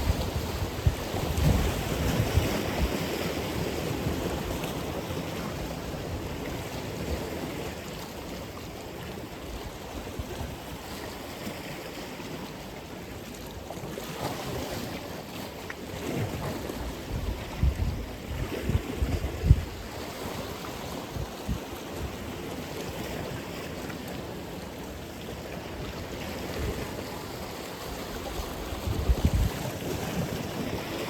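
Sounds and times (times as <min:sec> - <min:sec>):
sea waves breaking: 0:00.0 - 0:31.0.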